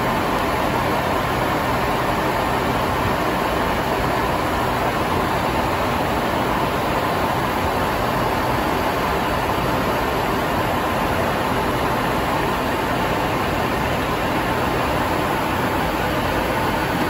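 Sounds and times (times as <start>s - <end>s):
jet aircraft cabin noise: 0.0s - 17.0s.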